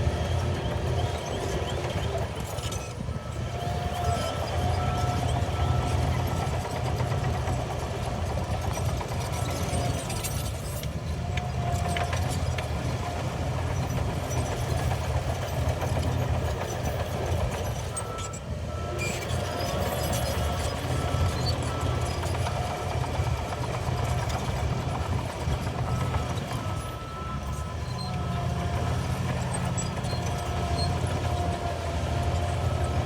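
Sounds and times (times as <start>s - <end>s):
bulldozer diesel engine rumbling: 0.0s - 33.0s.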